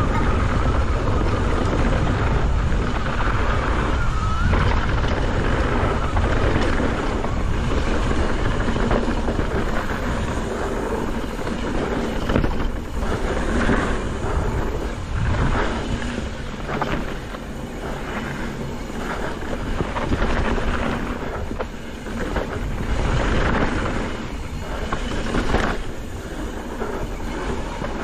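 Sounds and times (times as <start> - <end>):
bike rattling clicks and knocks: 0.0 - 28.0
tyres rumbling on dirt trail: 0.0 - 28.0
wind rushing over microphone: 0.0 - 28.0.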